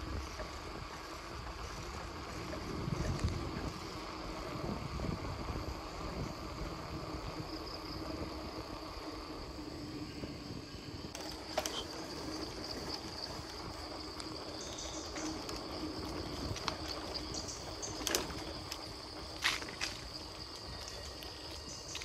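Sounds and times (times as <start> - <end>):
insects chirring: 0.0 - 22.0
low rumble of movement: 0.0 - 22.0.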